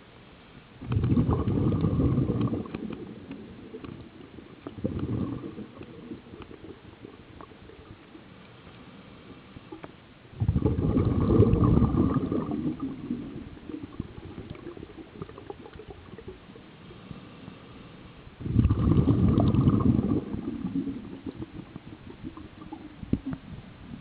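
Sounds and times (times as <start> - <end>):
underwater exhaust bubbles: 0.8 - 17.0, 18.3 - 24.0.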